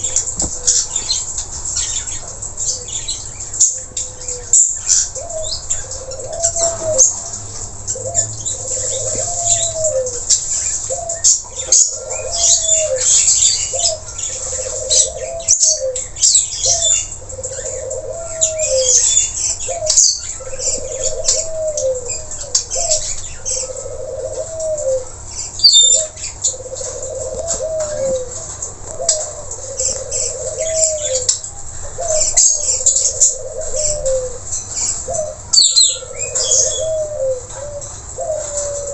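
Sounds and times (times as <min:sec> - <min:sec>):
low cooing call: 0:00.0 - 0:38.9
parakeets chirping and screeching: 0:00.0 - 0:38.9.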